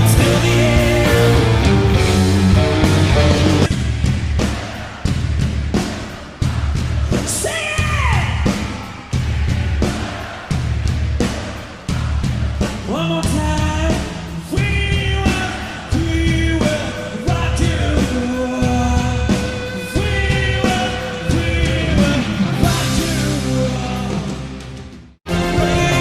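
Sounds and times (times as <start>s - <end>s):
song with singing and beat: 0.0s - 24.5s, 25.3s - 26.0s.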